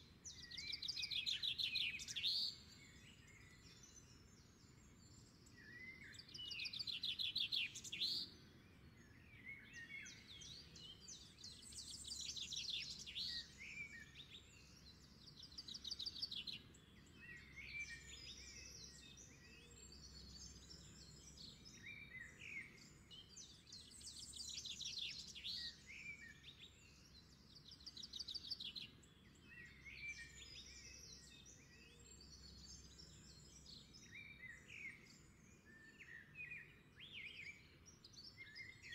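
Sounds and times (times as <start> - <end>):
birds chirping and singing: 0.2 - 38.9.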